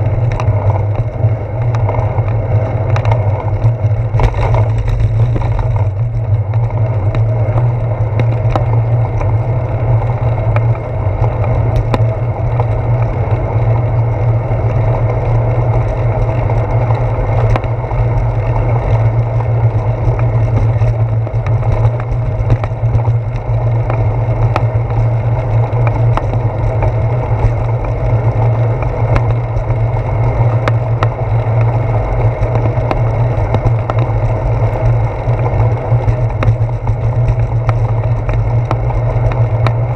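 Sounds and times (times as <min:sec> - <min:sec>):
bicycle rolling rumble: 0:00.0 - 0:39.9
bike clicks and knocks over bumps: 0:00.0 - 0:39.9
wind noise: 0:00.0 - 0:39.9.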